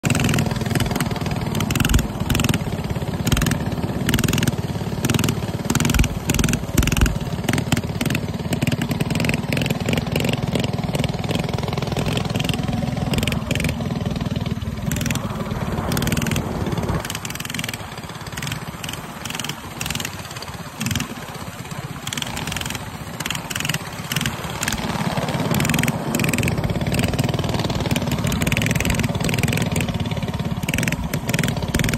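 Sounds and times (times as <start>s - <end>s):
mini bike engines running: 0.0s - 31.9s.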